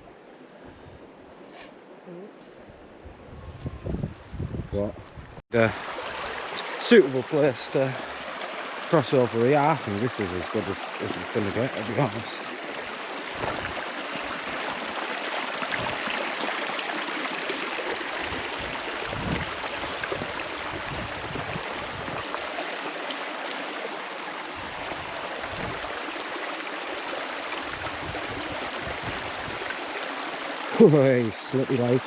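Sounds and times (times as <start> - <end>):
stream rushing over rocks: 5.5 - 32.0.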